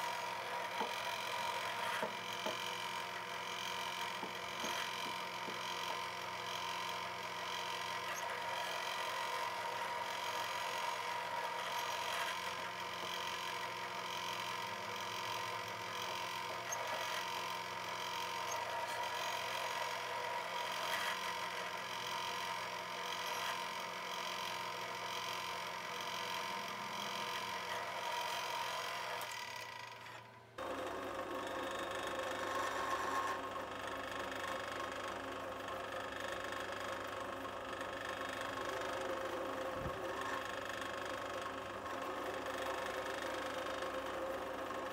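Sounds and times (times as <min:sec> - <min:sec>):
drill press whining: 0:00.0 - 0:44.9.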